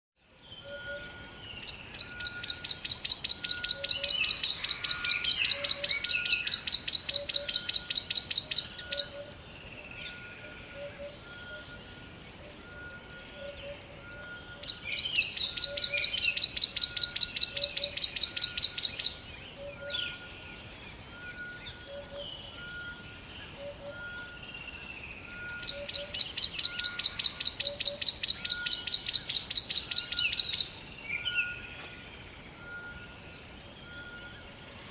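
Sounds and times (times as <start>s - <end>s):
birds chirping: 0.3s - 34.9s.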